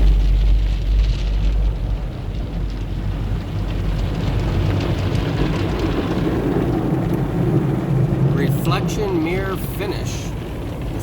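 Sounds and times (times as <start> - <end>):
car wash machinery rumble: 0.0 - 11.0.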